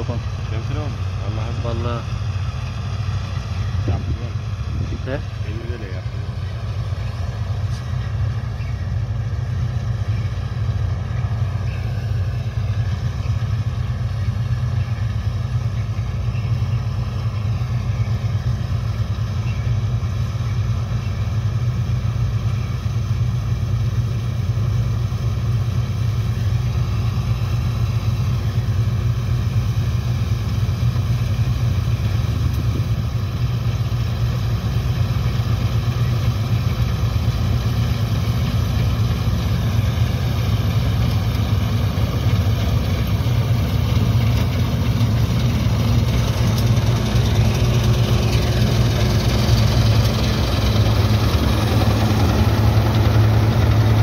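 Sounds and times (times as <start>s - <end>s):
combine harvester engine drone: 0.0s - 54.0s
second combine harvester running: 0.0s - 54.0s.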